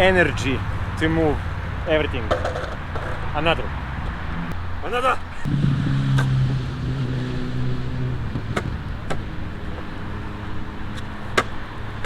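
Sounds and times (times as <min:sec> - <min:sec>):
longboard wheels humming on pavement: 0:00.0 - 0:12.0.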